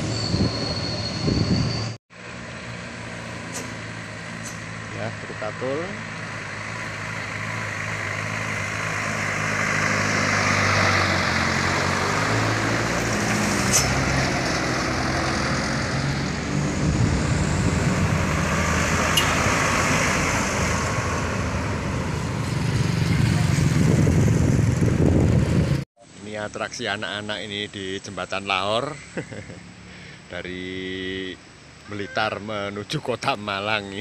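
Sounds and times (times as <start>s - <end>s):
diesel trucks passing: 0.0s - 25.8s, 27.2s - 34.0s.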